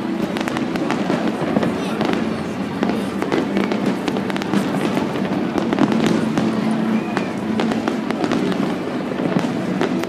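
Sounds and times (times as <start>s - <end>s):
fireworks bangs and crackling: 0.0s - 10.0s
steady rumble: 0.0s - 10.0s.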